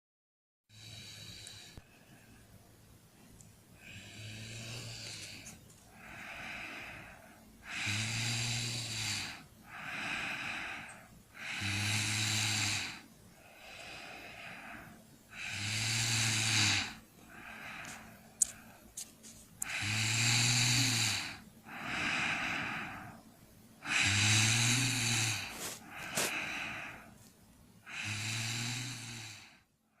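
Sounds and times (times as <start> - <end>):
person snoring: 0.7 - 1.9, 3.8 - 19.0, 19.6 - 23.2, 23.8 - 27.2, 27.8 - 29.7.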